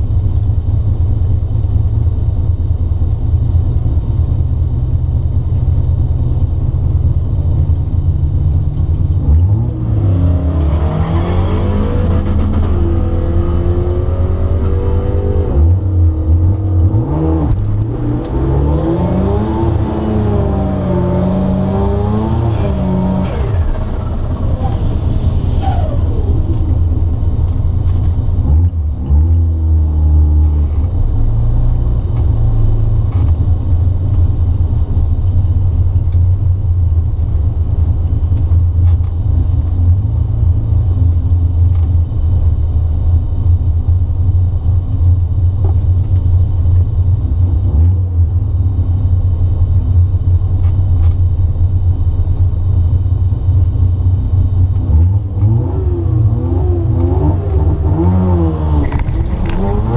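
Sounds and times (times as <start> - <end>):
rotary engine idling and revving: 3.1 - 59.9.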